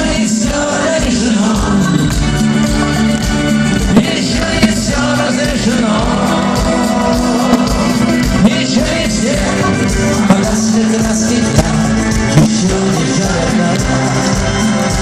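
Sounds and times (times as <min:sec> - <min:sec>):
rock band music: 0:00.0 - 0:15.0.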